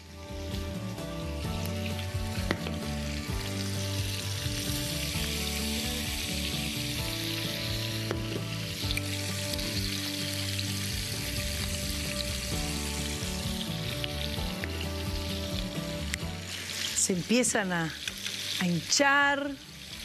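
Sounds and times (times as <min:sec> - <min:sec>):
prawns sizzling in a frying pan: 0:00.0 - 0:20.0.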